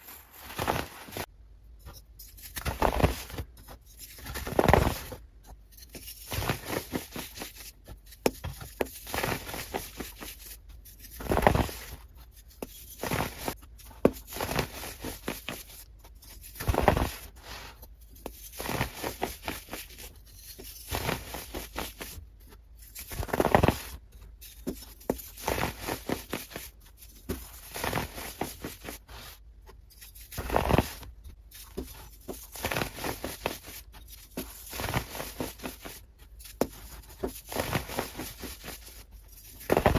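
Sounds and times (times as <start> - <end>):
rustling: 0.0 - 1.3, 9.0 - 39.9.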